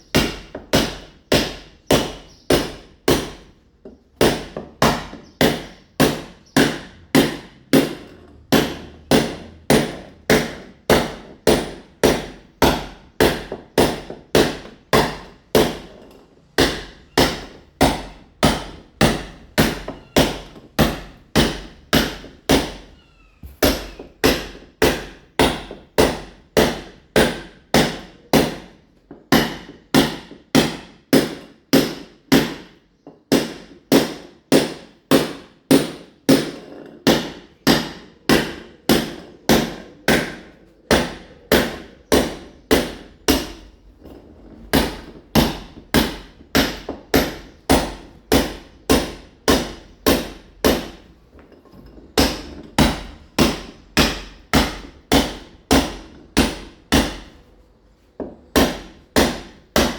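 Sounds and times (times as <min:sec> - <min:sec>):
hammer striking wall: 0:00.1 - 0:22.9, 0:23.5 - 0:51.1, 0:51.8 - 0:57.4, 0:58.2 - 0:59.9.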